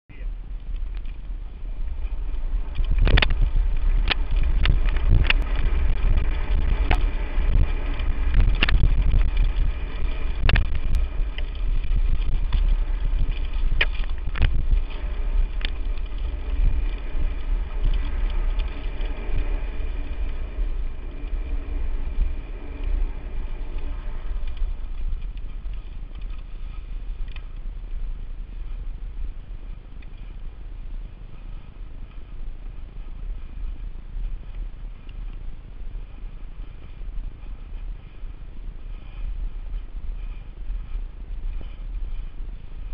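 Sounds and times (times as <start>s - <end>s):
wind rumble on microphone: 0.1s - 42.9s
bike knocking and rattling: 0.4s - 42.9s.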